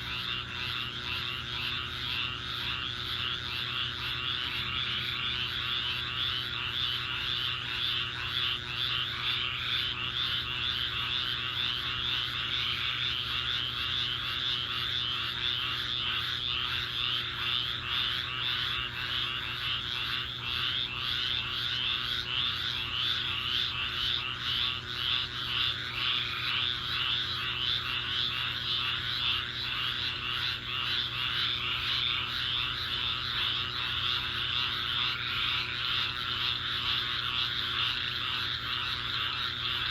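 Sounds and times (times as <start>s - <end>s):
frogs calling in chorus: 0.0s - 39.9s.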